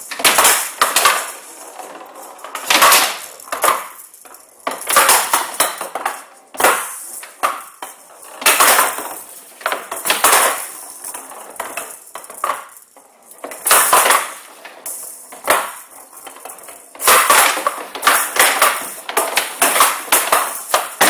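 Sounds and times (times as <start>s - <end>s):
ball rattling on wooden table: 0.0s - 21.0s.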